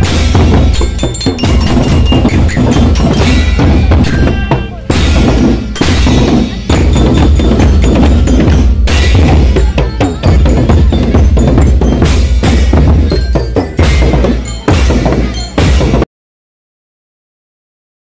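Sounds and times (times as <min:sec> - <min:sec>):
hand cymbals: 0:00.0 - 0:16.0
marching drum band: 0:00.0 - 0:16.0.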